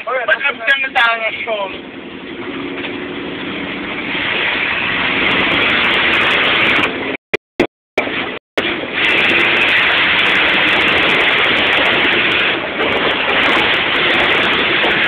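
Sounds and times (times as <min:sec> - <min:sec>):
road noise: 0:00.0 - 0:07.2, 0:08.0 - 0:15.0.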